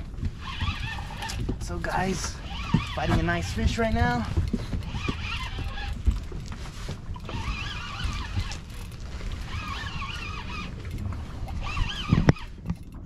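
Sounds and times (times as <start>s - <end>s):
water moving around boat: 0.0s - 13.0s
wind rumble on microphone: 0.0s - 13.0s.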